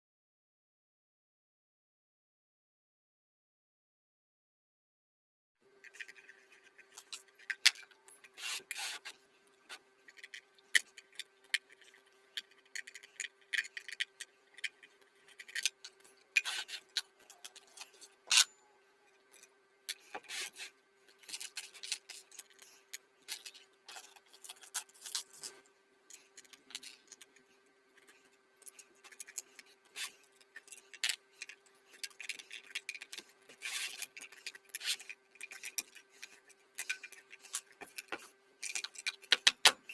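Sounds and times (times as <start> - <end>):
faint steady hum: 5.6 - 39.9
rubbing and scraping strokes: 5.8 - 39.9.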